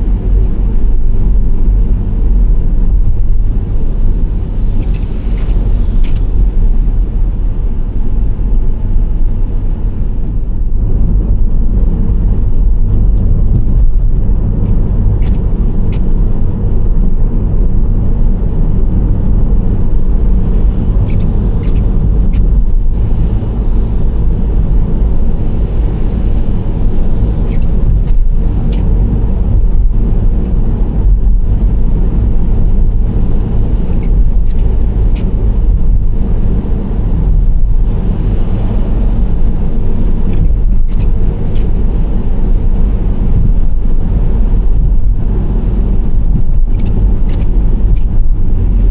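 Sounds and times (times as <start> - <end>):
minivan driving rumble: 0.0 - 48.9.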